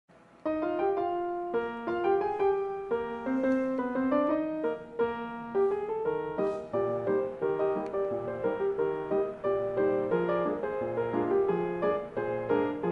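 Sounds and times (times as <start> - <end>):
piano music: 0.2 - 12.9.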